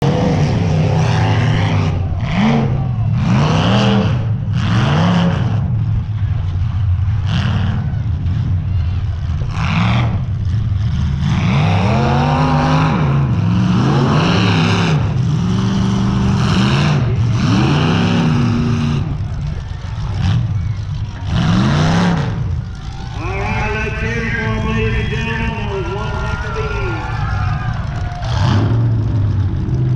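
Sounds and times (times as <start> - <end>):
car engines revving: 0.0 - 29.9.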